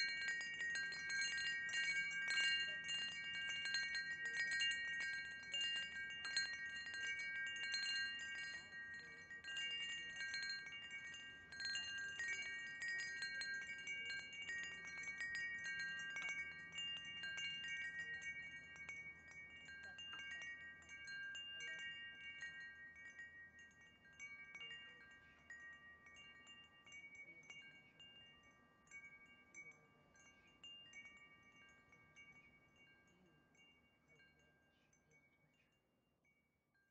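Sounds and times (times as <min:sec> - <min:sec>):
wind chimes ringing: 0:00.0 - 0:35.8.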